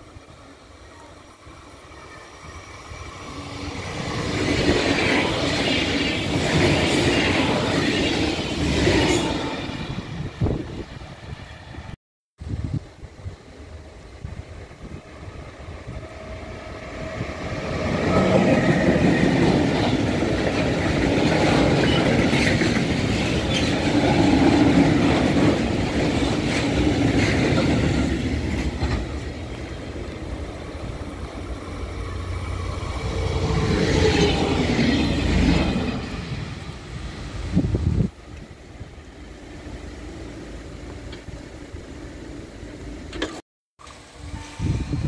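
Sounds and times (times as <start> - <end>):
diesel railcar passing: 0.0 - 45.0
freight train rumbling past: 0.0 - 45.0.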